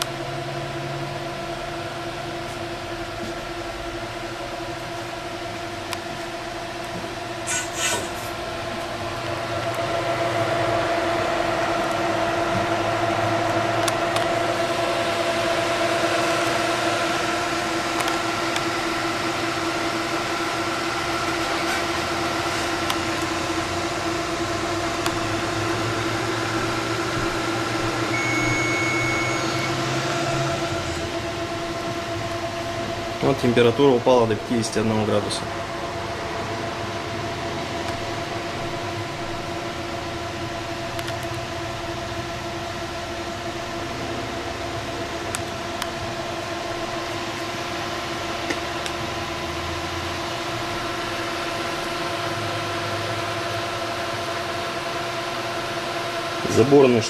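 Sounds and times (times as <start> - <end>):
fans rushing air: 0.0 - 57.0
multi-tone fan hum: 0.0 - 57.0.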